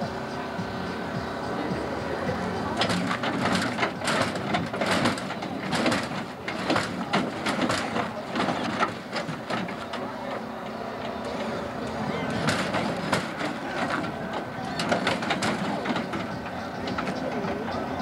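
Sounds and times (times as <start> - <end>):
hydraulic suspension clanking: 1.6 - 18.0.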